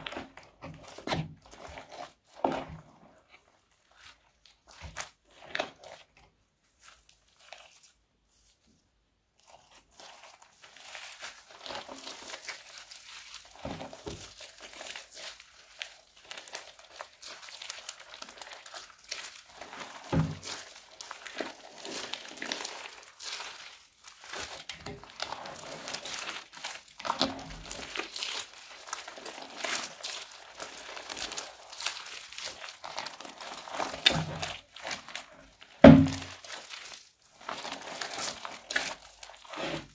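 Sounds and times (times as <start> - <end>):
slime crinkling and snapping: 0.0 - 8.0, 9.4 - 39.9.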